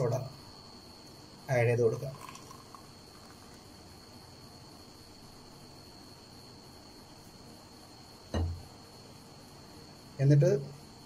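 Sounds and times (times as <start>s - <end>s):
low background hiss: 0.0s - 11.0s.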